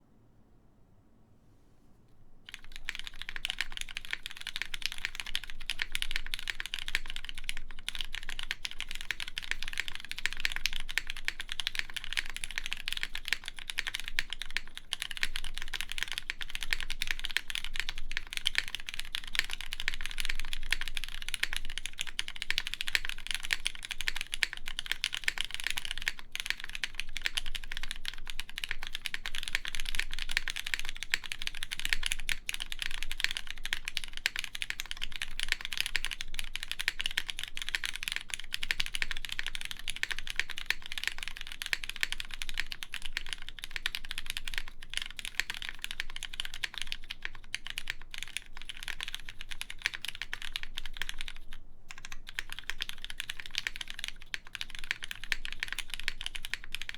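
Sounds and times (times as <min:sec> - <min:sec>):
fast mechanical keyboard typing: 0:02.5 - 0:56.9.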